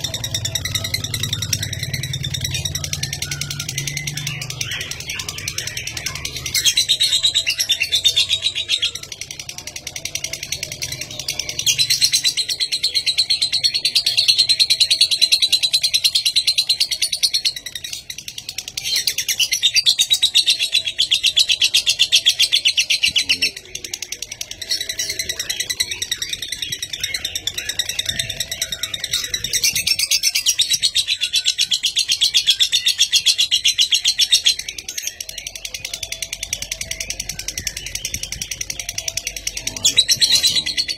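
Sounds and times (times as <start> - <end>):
lovebird chattering trills: 0.0 - 40.9.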